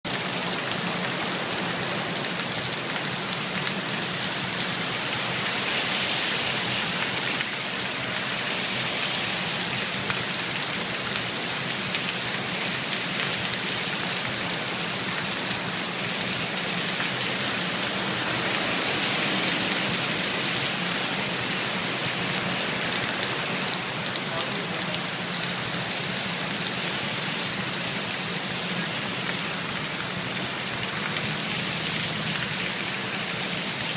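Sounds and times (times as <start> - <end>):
heavy rain on hard surfaces: 0.0 - 33.9.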